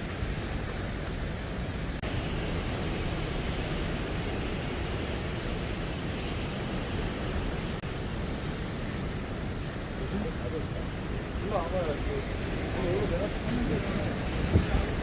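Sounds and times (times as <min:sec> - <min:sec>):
rough sea surf: 0:00.0 - 0:15.0
wind buffeting microphone: 0:00.0 - 0:15.0.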